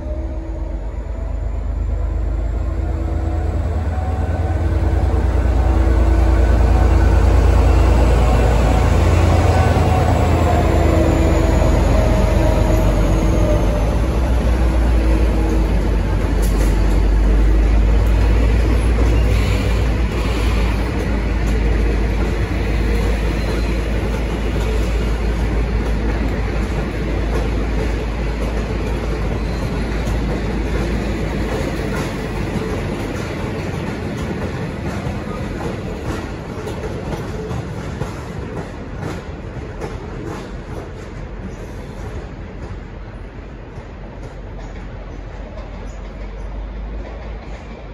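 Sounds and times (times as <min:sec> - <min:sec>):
diesel locomotive engine rumble: 0:00.0 - 0:47.9
train carriages rolling on rails: 0:00.0 - 0:47.9.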